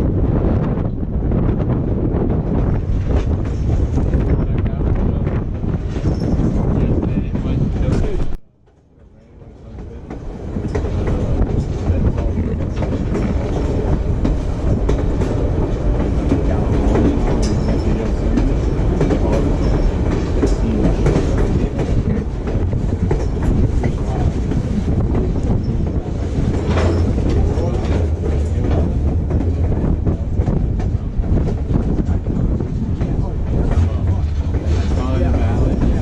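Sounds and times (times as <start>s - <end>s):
train rumbling: 0.0s - 36.0s
wheels clattering on rails: 2.3s - 36.0s.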